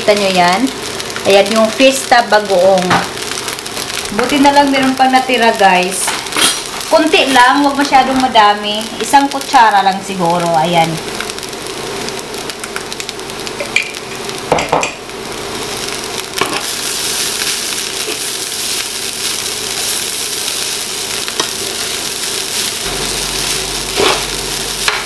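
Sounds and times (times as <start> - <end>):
rice sizzling in frying pan: 0.0 - 25.0.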